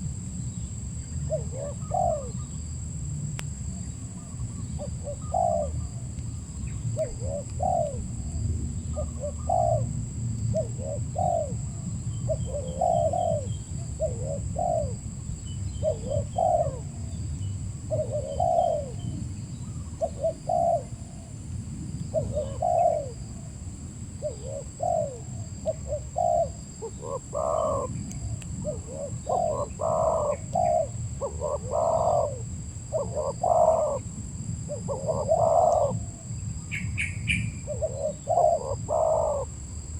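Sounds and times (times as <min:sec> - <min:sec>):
dove cooing: 0:01.3 - 0:02.5, 0:04.2 - 0:06.1, 0:07.0 - 0:15.0, 0:15.8 - 0:17.1, 0:17.9 - 0:21.3, 0:22.1 - 0:23.5, 0:24.2 - 0:34.1, 0:34.7 - 0:39.5.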